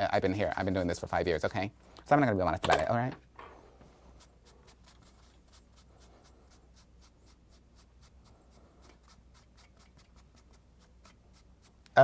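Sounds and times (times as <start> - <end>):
sponge dabbing on canvas: 0.0 - 1.7, 3.7 - 12.0.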